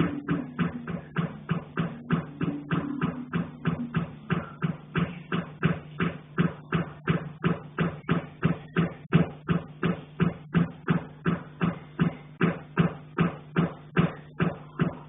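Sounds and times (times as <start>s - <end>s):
knocking on iron pipe: 0.0s - 15.0s
low hum: 0.0s - 15.0s.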